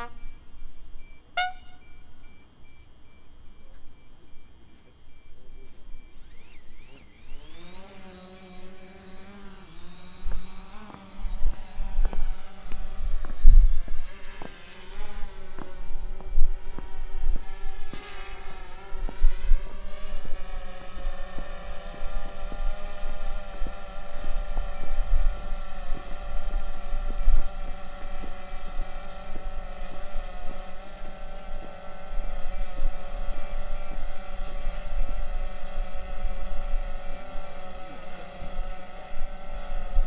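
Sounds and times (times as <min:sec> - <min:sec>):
drone propellers humming: 0:00.0 - 0:40.0.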